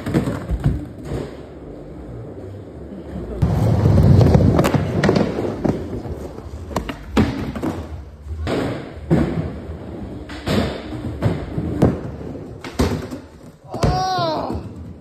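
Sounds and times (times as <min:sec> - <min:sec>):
skateboard clacks and thuds: 0:00.0 - 0:01.4, 0:03.4 - 0:15.0
skateboard wheels rolling: 0:00.0 - 0:15.0.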